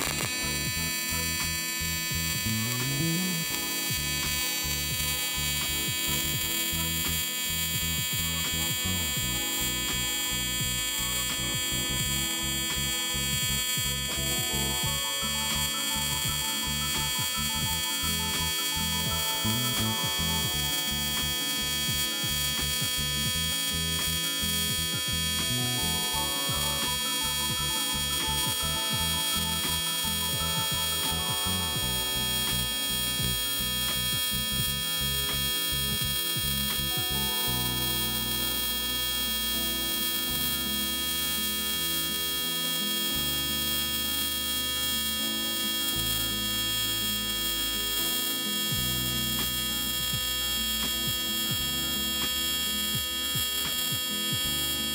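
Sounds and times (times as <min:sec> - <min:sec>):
background music: 0:00.0 - 0:54.9
welding arc buzzing: 0:00.0 - 0:54.9.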